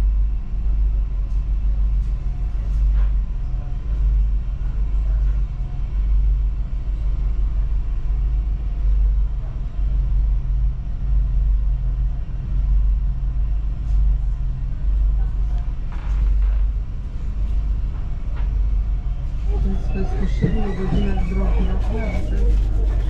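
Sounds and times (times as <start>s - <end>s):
train rumbling inside carriage: 0.0s - 23.0s.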